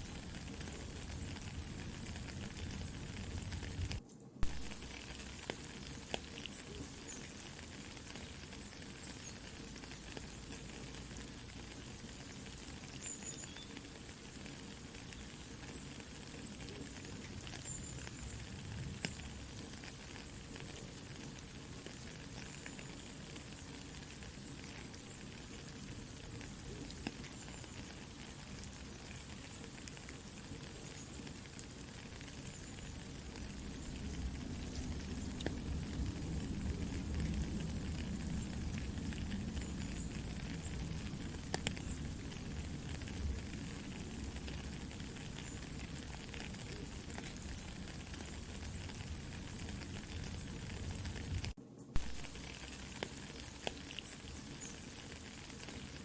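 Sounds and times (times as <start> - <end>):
campfire crackling: 0.0 - 56.0
soft rain pattering: 0.0 - 56.0.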